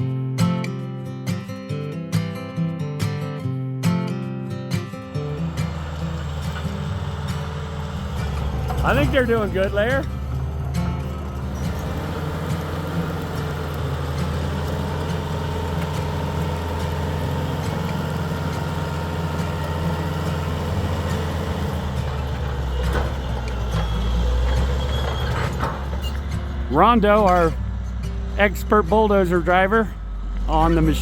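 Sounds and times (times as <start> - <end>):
bulldozer diesel engine running: 4.9 - 31.0.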